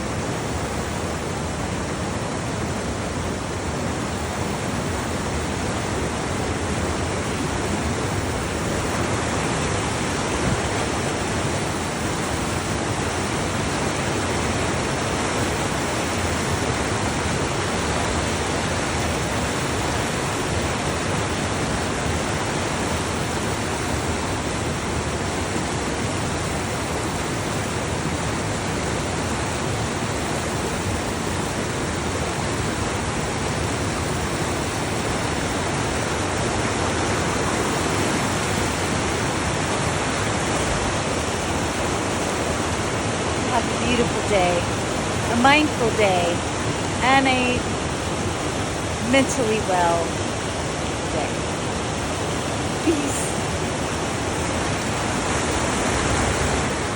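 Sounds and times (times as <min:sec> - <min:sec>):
water rushing: 0:00.0 - 0:56.9.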